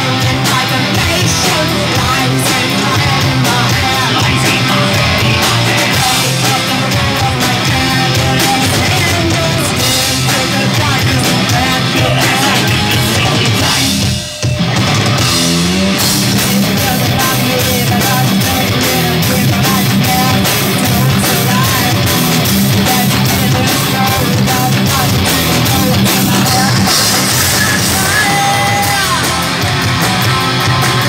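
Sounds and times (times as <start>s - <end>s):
vocals: 0.0s - 14.4s, 15.4s - 31.0s
heavy metal band playing: 0.0s - 31.0s.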